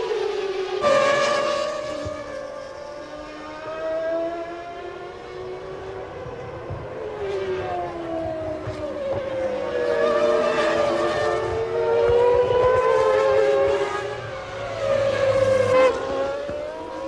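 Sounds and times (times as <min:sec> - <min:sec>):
racing car engines passing at high revs: 0:00.0 - 0:17.0.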